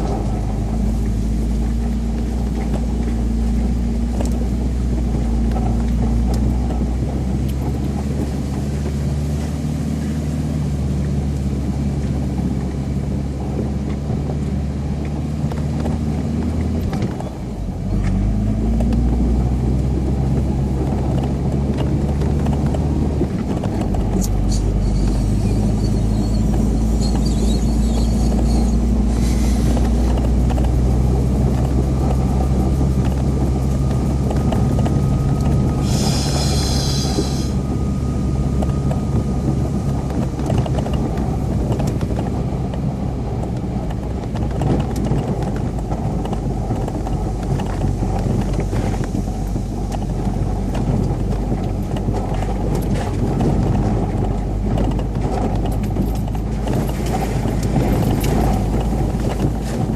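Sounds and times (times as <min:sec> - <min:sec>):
engine running with heavy rumble: 0:00.0 - 0:59.9.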